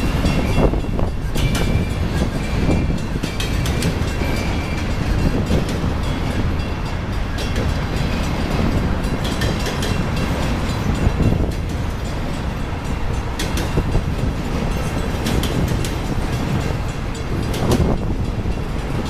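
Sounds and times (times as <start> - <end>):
train cars clicking and rattling: 0.0 - 19.0
train wheels rumbling on rail: 0.0 - 19.0.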